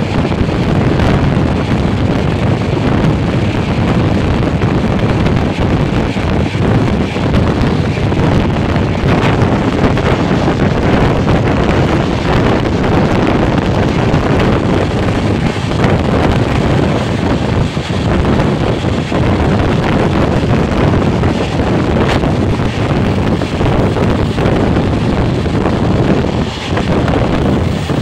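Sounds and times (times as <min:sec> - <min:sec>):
train rumbling on track: 0:00.0 - 0:28.0
wind buffeting microphone: 0:00.0 - 0:28.0.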